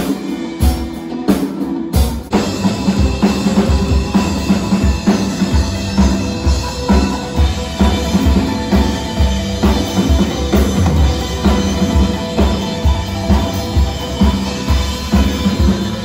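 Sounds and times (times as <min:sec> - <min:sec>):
music with drum beat: 0:00.0 - 0:16.0.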